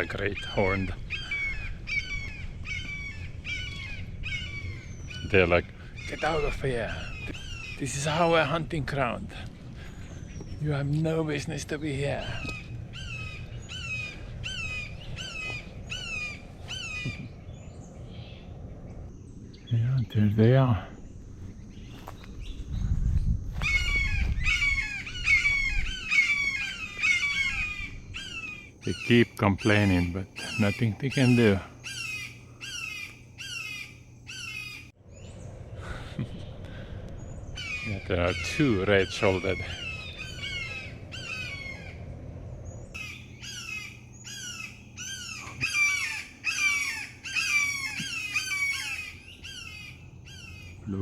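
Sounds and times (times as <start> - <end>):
hawks screaming: 0.0 - 9.1, 9.9 - 18.4, 23.6 - 34.9, 37.4 - 42.1, 43.0 - 51.0
low rumbling noise: 0.9 - 51.0.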